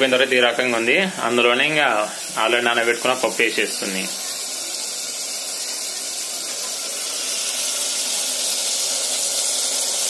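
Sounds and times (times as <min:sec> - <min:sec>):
food hissing in a pot: 0:00.0 - 0:10.0.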